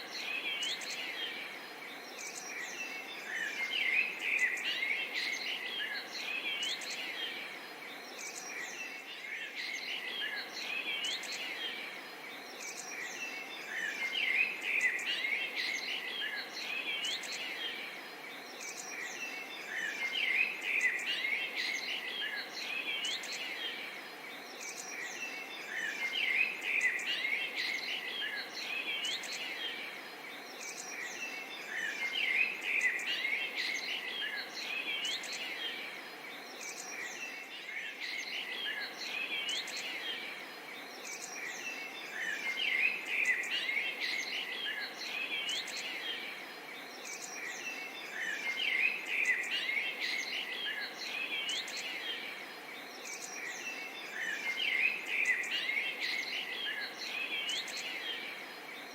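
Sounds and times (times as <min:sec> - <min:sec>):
faint background hiss: 0:00.0 - 0:58.9
small birds chirping: 0:00.0 - 0:58.9.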